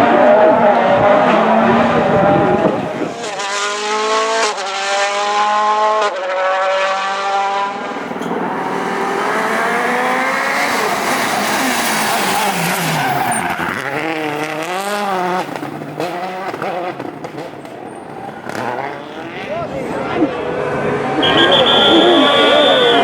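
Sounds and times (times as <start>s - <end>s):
rally car engine accelerating: 0.0s - 23.0s.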